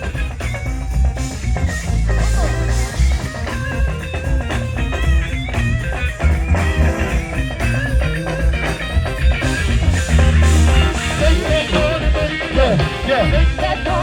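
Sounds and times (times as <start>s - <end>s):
blues-rock band bass and drums: 0.0s - 14.0s
electric guitar solo: 0.0s - 14.0s.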